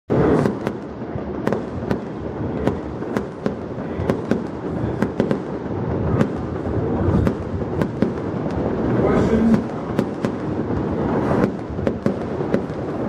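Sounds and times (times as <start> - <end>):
fireworks bangs and crackles: 0.1 - 13.0.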